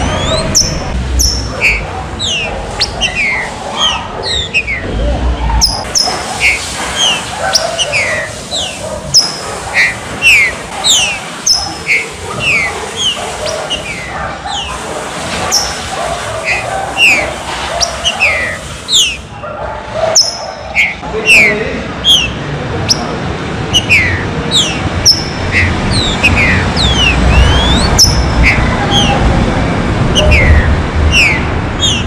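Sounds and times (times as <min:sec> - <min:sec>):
bird whistled calls: 0:00.0 - 0:05.0, 0:05.6 - 0:14.8, 0:15.5 - 0:15.8, 0:16.4 - 0:19.3, 0:20.2 - 0:23.1, 0:23.7 - 0:29.3, 0:30.1 - 0:32.0.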